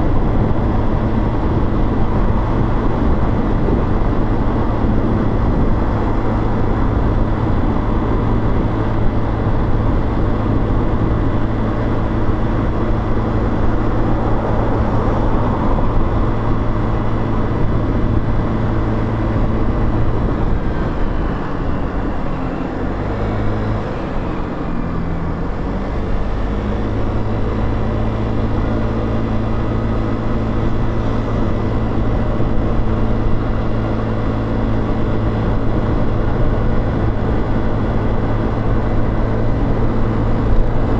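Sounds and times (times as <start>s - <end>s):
motorcycle engine running: 0.0s - 22.8s, 23.4s - 40.9s
steady rushing noise: 0.0s - 40.9s.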